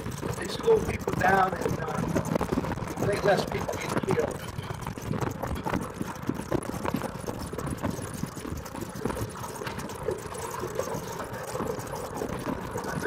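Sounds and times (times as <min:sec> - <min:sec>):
golf cart rattling on gravel: 0:00.0 - 0:13.0.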